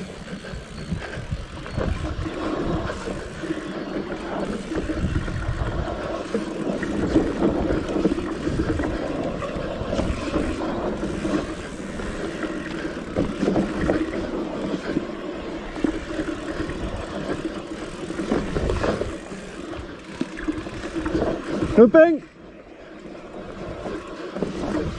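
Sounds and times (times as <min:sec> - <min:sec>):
wind buffeting microphone: 0:00.0 - 0:21.8, 0:23.2 - 0:24.9
bike rattling and knocking: 0:00.0 - 0:22.2
bike tyre rumble on dirt: 0:00.0 - 0:24.9.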